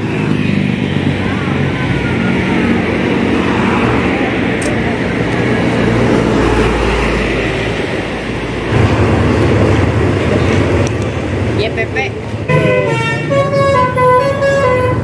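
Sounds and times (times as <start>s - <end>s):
road and wind noise: 0.0s - 15.0s
traffic engines running: 0.0s - 15.0s.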